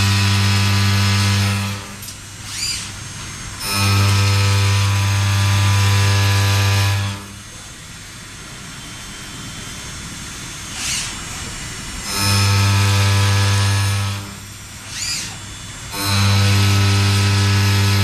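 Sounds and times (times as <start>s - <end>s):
machine cutting metal whine: 0.0s - 18.0s.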